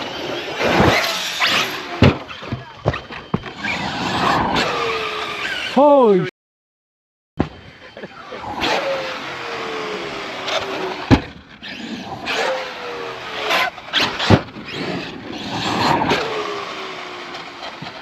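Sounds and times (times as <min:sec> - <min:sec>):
electric motor whining: 0:00.0 - 0:05.9, 0:07.6 - 0:18.0.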